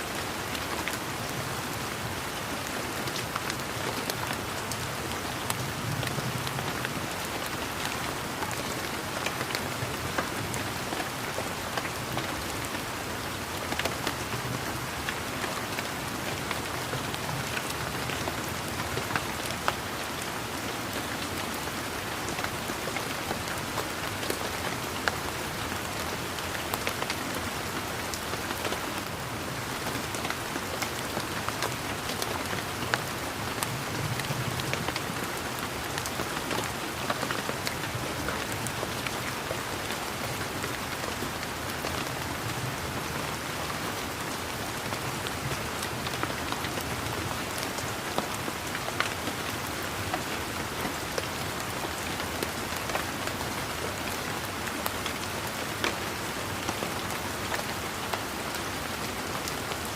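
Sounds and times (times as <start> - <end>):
rain falling on leaves: 0.0 - 59.9
raindrops ticking and pattering: 0.0 - 59.9.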